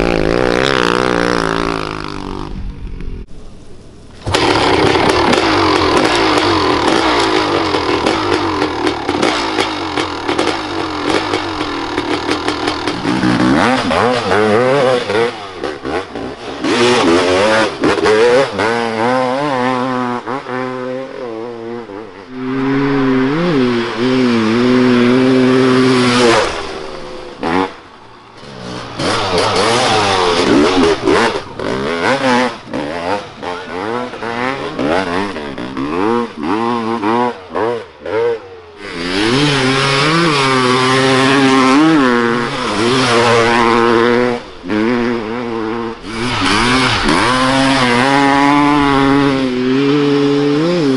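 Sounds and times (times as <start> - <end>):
dirt bike engines revving: 0.0 - 3.3, 4.1 - 50.9.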